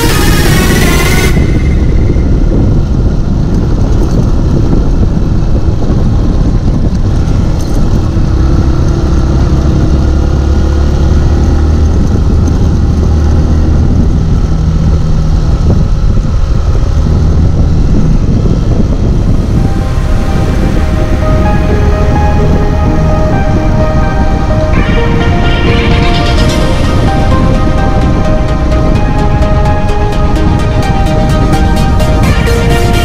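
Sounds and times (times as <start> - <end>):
wind noise: 0.0 - 33.0.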